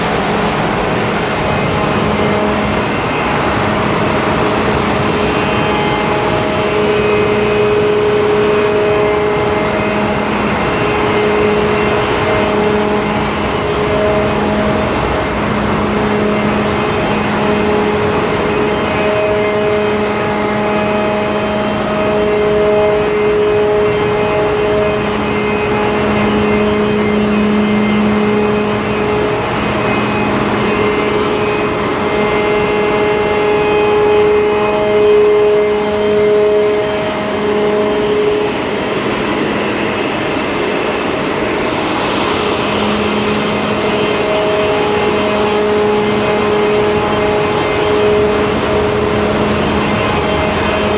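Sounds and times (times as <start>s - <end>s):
engine room machinery humming: 0.0s - 50.9s.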